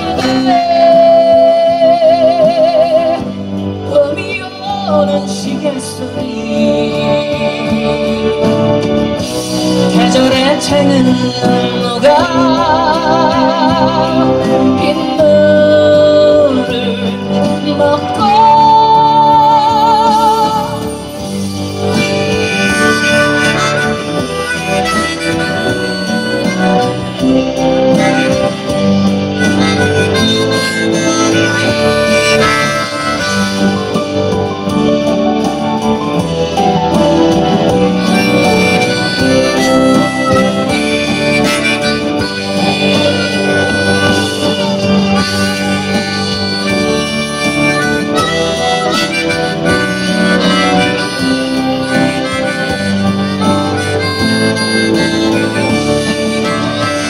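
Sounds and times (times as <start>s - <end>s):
band accompaniment: 0.0s - 57.0s
lead melody with vibrato: 0.0s - 57.0s.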